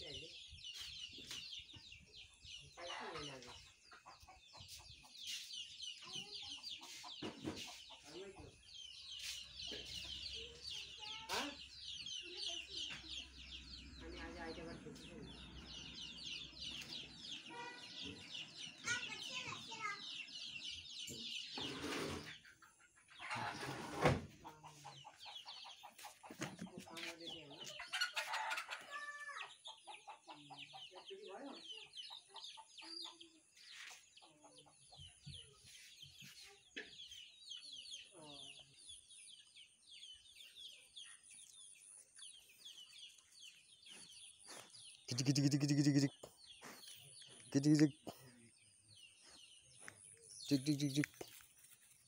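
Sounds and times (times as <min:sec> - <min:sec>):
chickens clucking: 0:00.0 - 0:52.0
small birds cheeping: 0:00.0 - 0:52.0.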